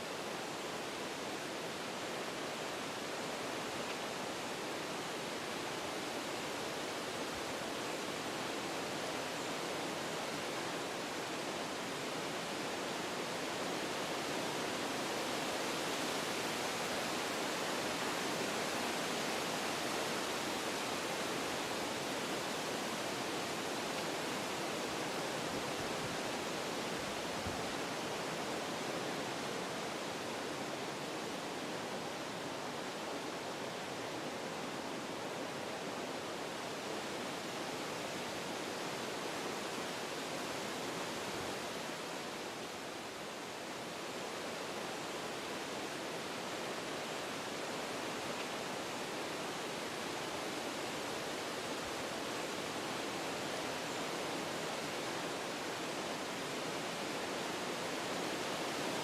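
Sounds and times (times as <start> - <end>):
wind through forest trees: 0.0 - 59.0.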